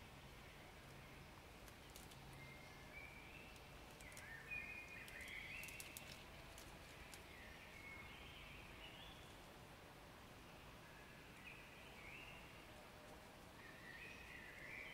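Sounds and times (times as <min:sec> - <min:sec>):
faint birdsong: 0:00.0 - 0:14.9.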